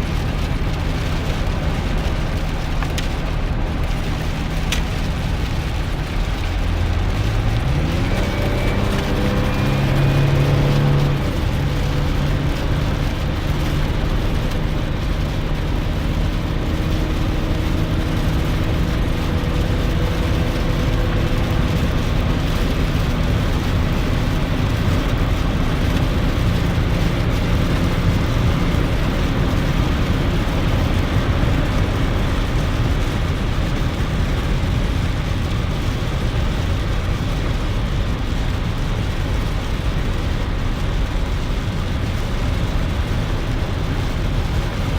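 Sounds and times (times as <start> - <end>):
low engine hum: 0.0 - 44.9.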